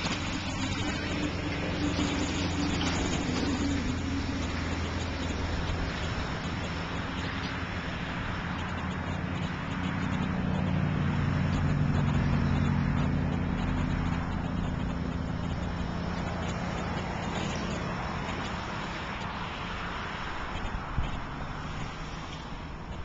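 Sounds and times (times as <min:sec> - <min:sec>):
passing vehicle engine hum: 0:00.0 - 0:23.0
road noise: 0:00.0 - 0:23.0.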